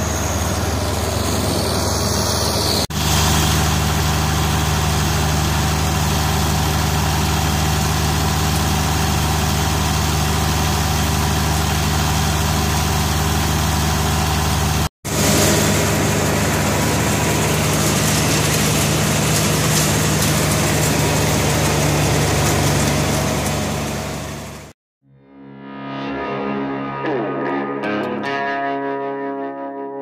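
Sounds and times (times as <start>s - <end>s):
farm machinery engine running: 0.0s - 24.8s.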